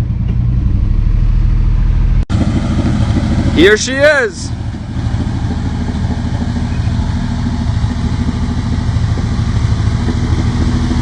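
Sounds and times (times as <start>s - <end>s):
pickup engine running: 0.0s - 11.0s.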